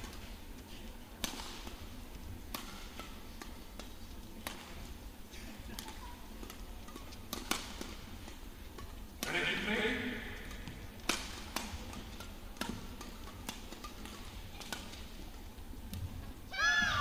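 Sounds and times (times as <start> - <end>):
rackets hitting shuttlecock: 0.0 - 16.9
arena noise hum: 0.0 - 17.0.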